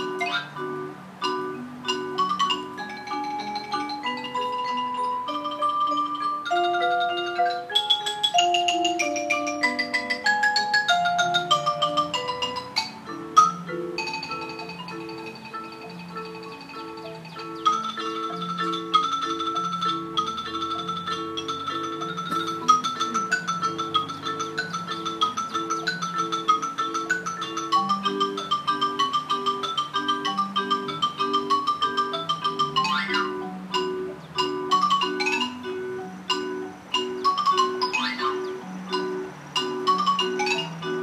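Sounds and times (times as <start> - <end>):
marimba ensemble playing: 0.0 - 41.0.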